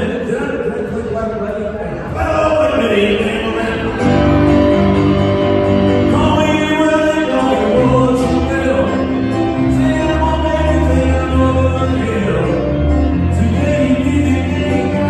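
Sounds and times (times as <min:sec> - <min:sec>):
person singing: 0:02.0 - 0:15.0
band with bass: 0:02.5 - 0:15.0.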